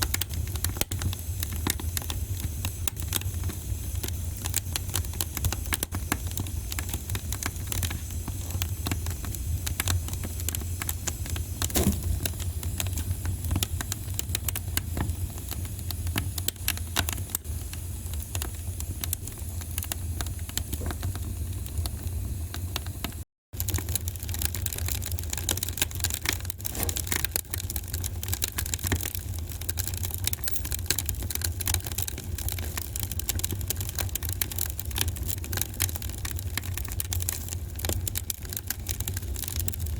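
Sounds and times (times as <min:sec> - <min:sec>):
low rumble of fire: 0:00.0 - 0:39.9
wood fire crackling and popping: 0:00.0 - 0:39.9.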